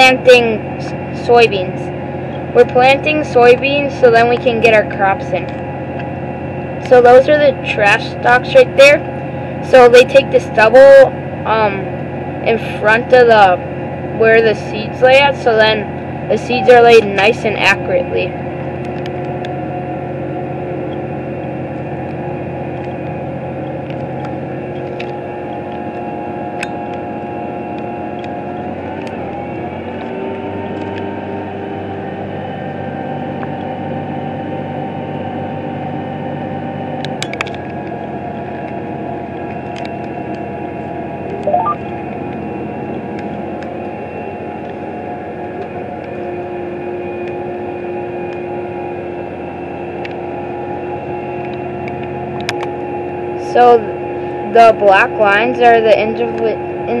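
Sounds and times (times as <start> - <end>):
tractor engine hum: 0.0 - 57.0.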